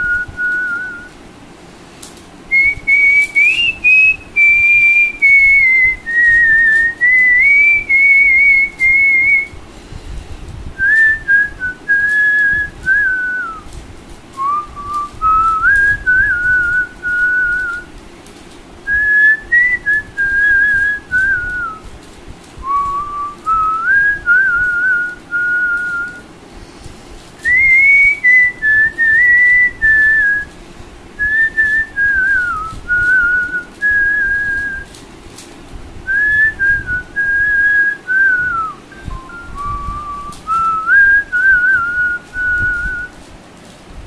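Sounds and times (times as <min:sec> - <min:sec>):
man whistling a melody: 0:00.0 - 0:01.2, 0:02.5 - 0:09.6, 0:10.8 - 0:13.7, 0:14.3 - 0:17.9, 0:18.9 - 0:21.8, 0:22.6 - 0:26.2, 0:27.4 - 0:30.5, 0:31.2 - 0:34.9, 0:36.0 - 0:43.2.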